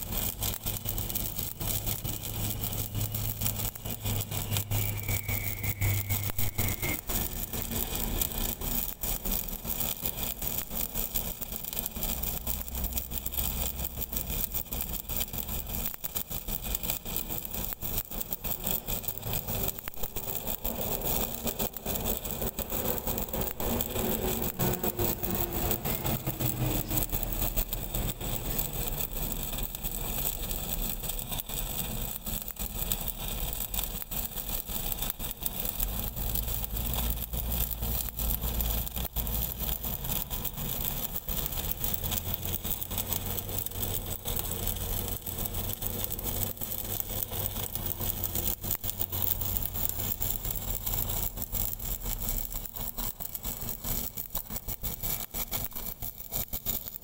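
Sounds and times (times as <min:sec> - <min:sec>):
welding arc crackling: 0:00.0 - 0:57.0.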